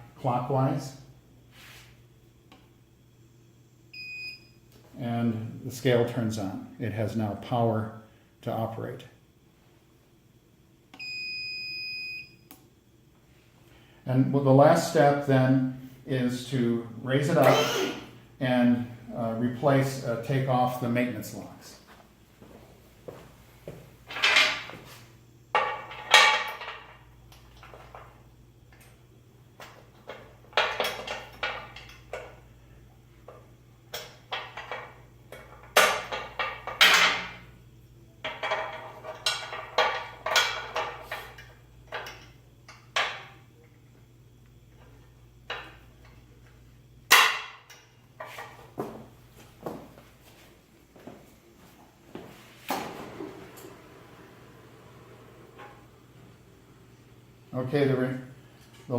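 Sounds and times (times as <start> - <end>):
faint low hum: 0.0 - 58.9.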